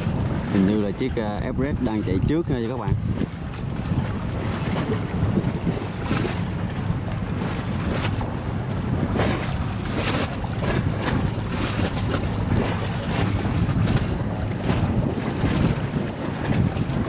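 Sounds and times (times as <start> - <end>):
boats low rumble: 0.0 - 17.0
choppy sea: 0.0 - 17.0
wind buffeting microphone: 0.0 - 17.0.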